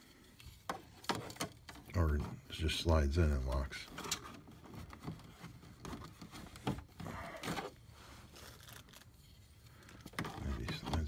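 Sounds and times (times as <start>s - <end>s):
hard plastic scraping and clicking: 0.4s - 2.4s, 3.3s - 11.0s.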